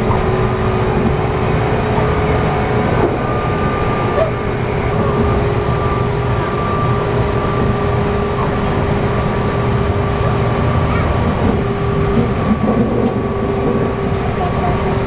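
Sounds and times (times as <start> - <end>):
motor and gear whine: 0.0 - 15.0
train rolling rumble: 0.0 - 15.0.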